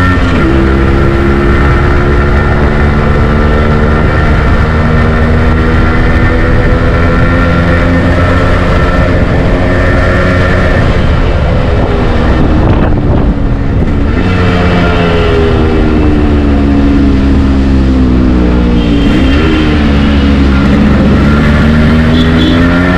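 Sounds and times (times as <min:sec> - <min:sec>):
two-stroke motorcycle engine: 0:00.0 - 0:22.9.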